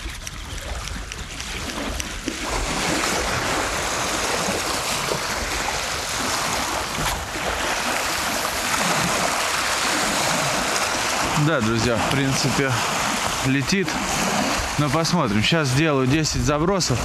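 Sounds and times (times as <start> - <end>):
waves: 0.0 - 17.0
wind buffeting microphone: 0.0 - 17.0.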